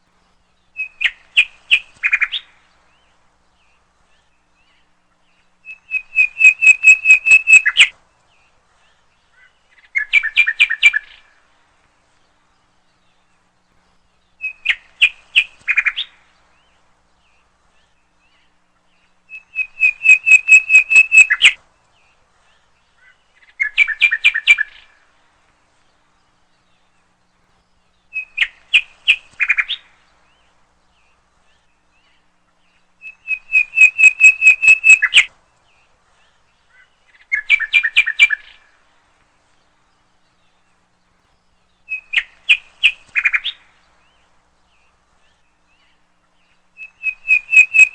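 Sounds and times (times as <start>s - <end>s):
songbird singing trilled chirps: 0.0s - 47.9s.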